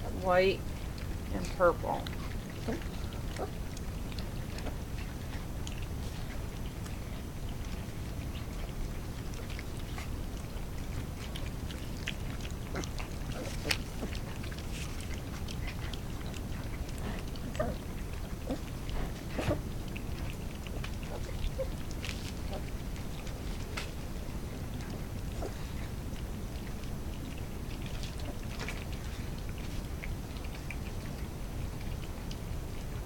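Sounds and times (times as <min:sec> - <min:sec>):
puppies lapping and slurping: 0:00.0 - 0:33.0.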